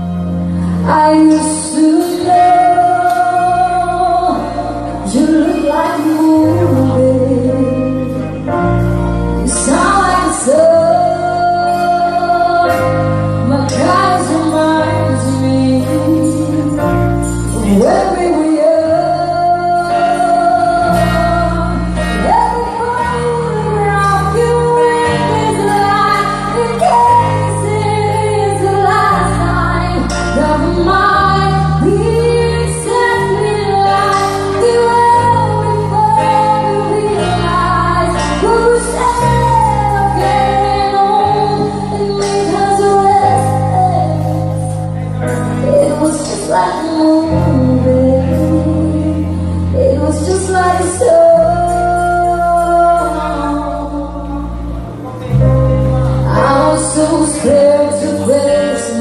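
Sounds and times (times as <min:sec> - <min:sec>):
guitar: 0:00.0 - 0:59.0
keyboard: 0:00.0 - 0:59.0
low bass line: 0:00.0 - 0:59.0
woman singing into microphone: 0:00.0 - 0:59.0.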